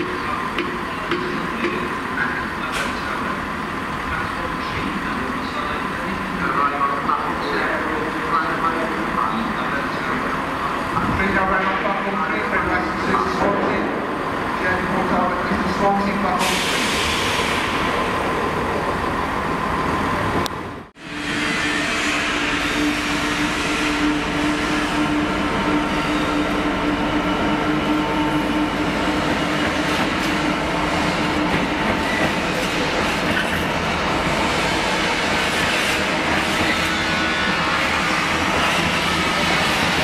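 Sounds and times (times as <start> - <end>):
diesel locomotive engine: 0.0 - 40.0.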